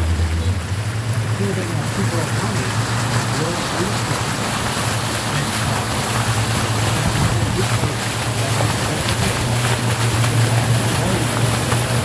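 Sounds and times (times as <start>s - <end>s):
boat motor humming: 0.0s - 12.0s
rushing water and wind: 0.0s - 12.0s.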